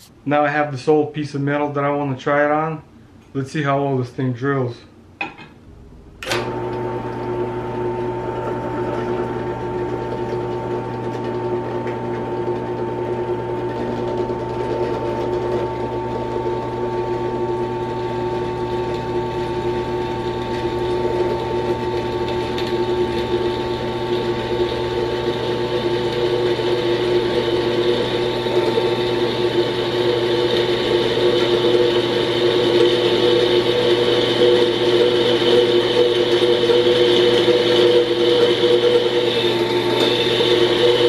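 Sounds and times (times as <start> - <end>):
drill press motor whining: 6.2 - 41.0.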